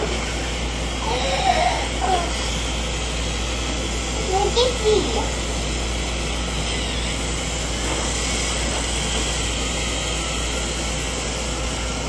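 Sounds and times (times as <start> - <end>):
toy airplane engine running: 0.0 - 12.0.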